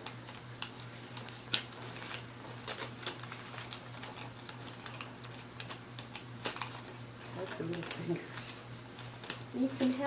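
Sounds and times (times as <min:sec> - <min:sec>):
wrapping paper crinkling and tearing: 0:00.0 - 0:10.0.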